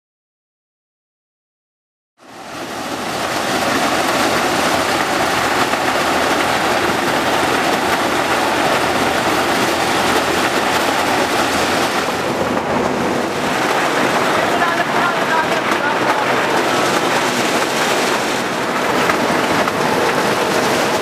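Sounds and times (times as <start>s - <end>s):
maize sheller rushing noise: 2.2s - 21.0s
tractor engine: 2.4s - 21.0s.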